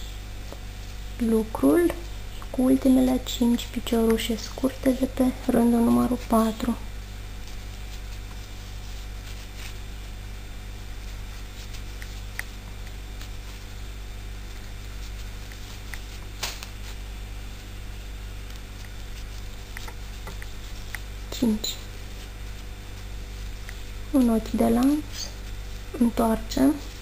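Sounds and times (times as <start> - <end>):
electrical hum and hiss: 0.0 - 27.0
soft rustles of yarn: 4.4 - 27.0.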